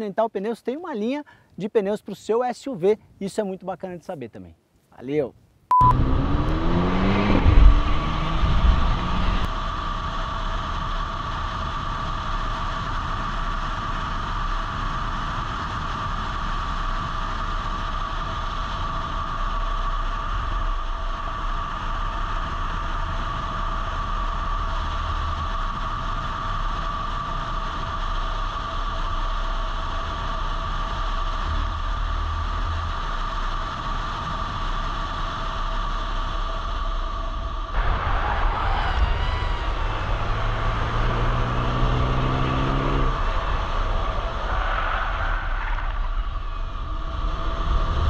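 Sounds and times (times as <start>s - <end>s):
vehicle engine and road drone: 5.7s - 48.0s.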